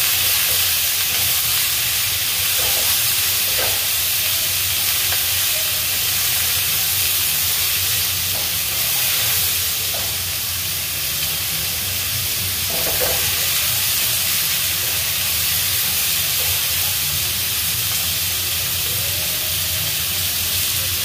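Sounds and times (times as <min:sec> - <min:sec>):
squash sizzling in frying pan: 0:00.0 - 0:21.0.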